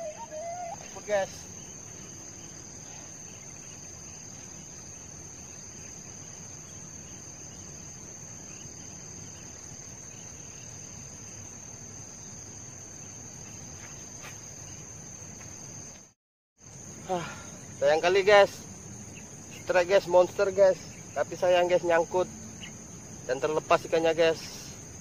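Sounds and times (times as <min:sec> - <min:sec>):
insects singing high drone: 0:00.0 - 0:25.0
low outdoor background hum: 0:00.0 - 0:25.0.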